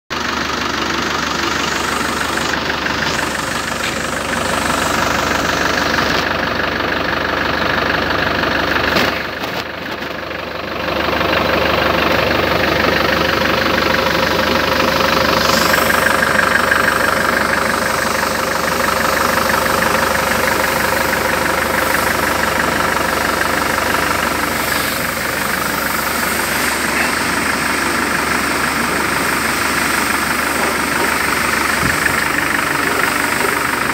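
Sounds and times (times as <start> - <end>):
engine idling: 0.1 - 33.9.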